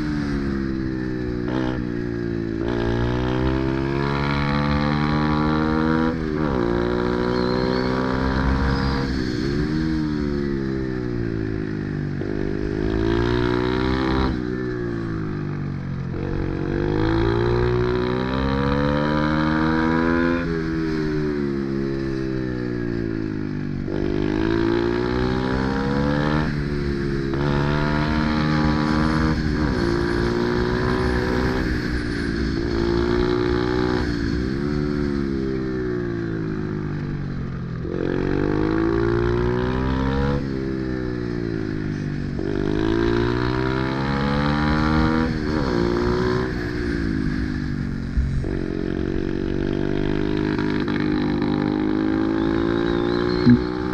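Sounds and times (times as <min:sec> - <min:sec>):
pit bike engine at full throttle: 0:00.0 - 0:53.9.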